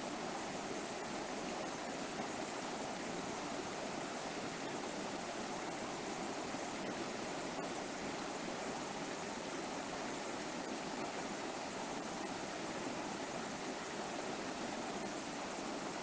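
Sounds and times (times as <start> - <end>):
river water flowing over rocks: 0.0 - 16.0.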